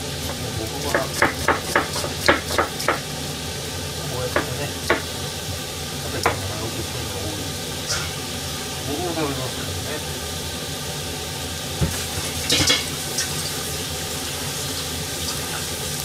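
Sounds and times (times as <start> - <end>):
liquid sizzling and bubbling in wok: 0.0 - 16.0.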